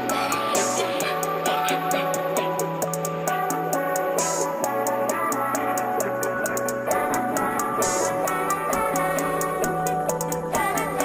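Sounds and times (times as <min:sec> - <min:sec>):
background music with quick beat: 0:00.0 - 0:11.0.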